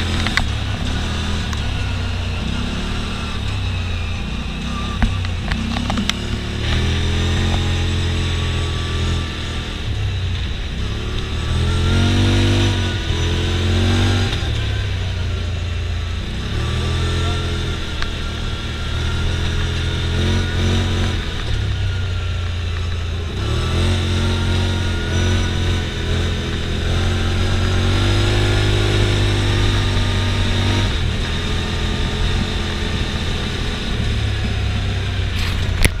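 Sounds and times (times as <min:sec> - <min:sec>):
engine accelerating and easing off: 0:00.0 - 0:36.0
wind and road noise: 0:00.0 - 0:36.0.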